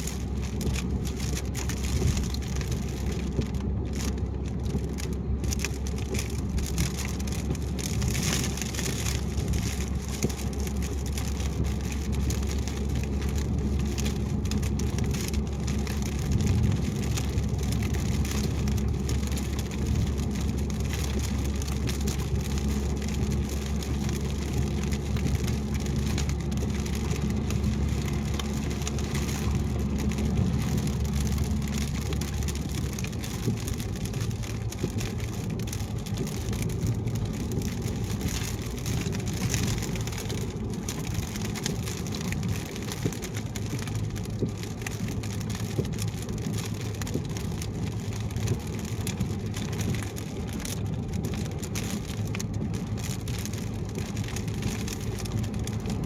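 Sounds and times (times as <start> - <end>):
low engine and road hum: 0.0 - 56.0
rain pattering on car: 0.0 - 56.0
wet tyre noise: 0.0 - 56.0.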